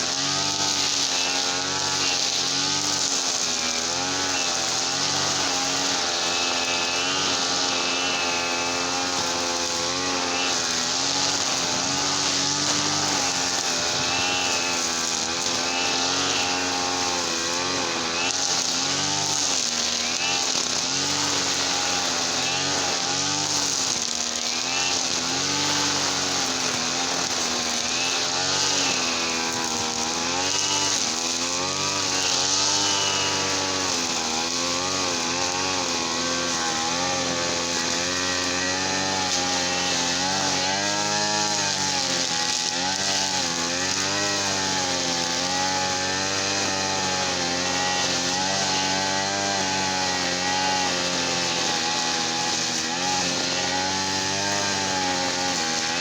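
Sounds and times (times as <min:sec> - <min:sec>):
small petrol engine running: 0:00.0 - 0:56.0.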